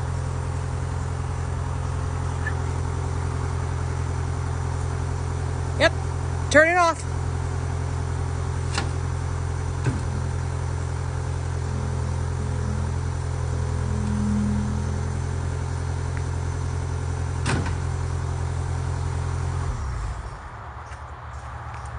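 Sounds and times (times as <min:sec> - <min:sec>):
skid steer engine idling: 0:00.0 - 0:21.9.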